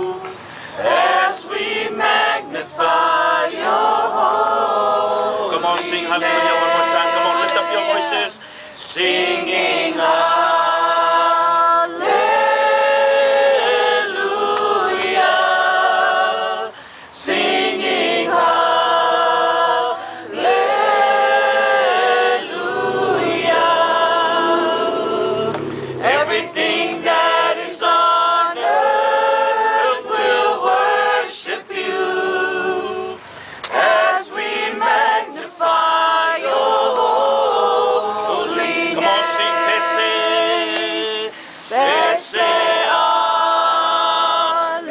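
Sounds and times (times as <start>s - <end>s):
group singing without instruments: 0.0s - 44.9s.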